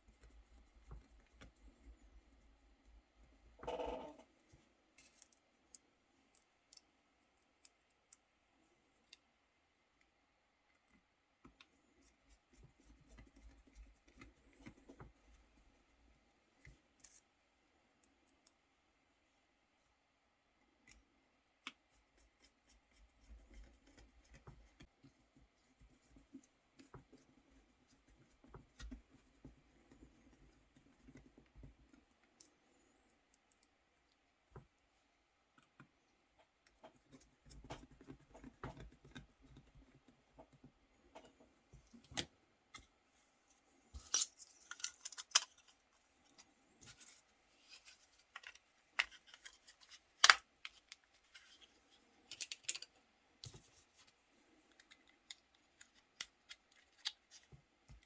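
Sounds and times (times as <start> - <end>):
soft rubbing and fumbling: 0.0 - 6.4, 11.5 - 17.4, 21.8 - 58.0.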